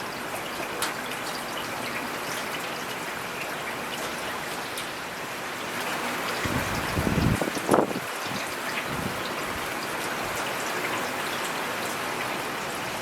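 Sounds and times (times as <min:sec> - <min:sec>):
raindrops ticking on surfaces: 0:00.0 - 0:13.0
steady rain: 0:00.0 - 0:13.0.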